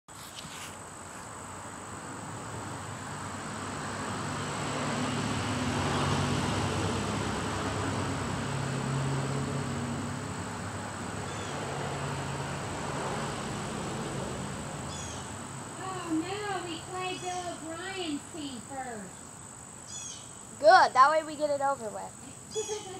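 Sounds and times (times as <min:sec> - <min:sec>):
distant engine hum: 0:00.2 - 0:22.9.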